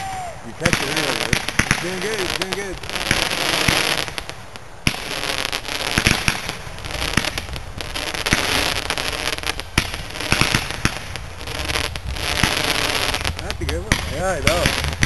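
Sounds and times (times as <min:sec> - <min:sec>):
ground firework crackling: 0:00.0 - 0:15.0.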